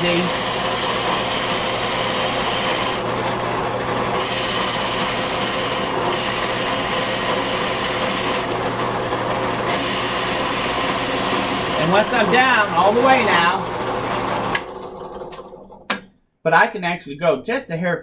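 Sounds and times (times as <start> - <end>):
drill bit grinding into wood: 0.0 - 15.4
drill press motor hum: 0.0 - 15.8.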